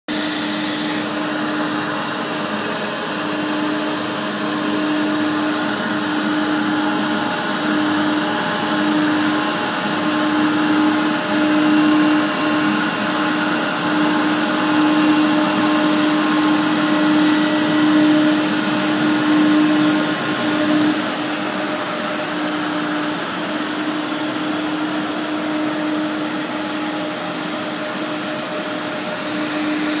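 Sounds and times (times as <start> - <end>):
jet engines whining at idle: 0.1 - 30.0.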